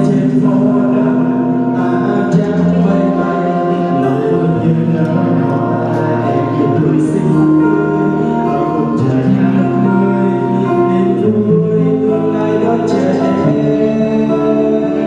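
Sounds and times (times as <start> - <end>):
musical accompaniment: 0.0 - 15.0
young man singing into microphone: 0.0 - 15.0.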